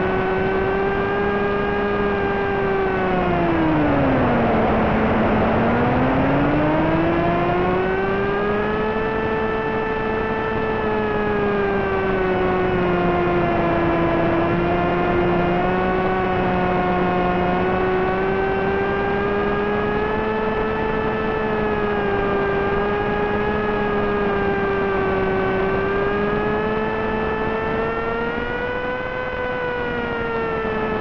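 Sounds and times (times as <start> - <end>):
electric motor whine: 0.0 - 31.0.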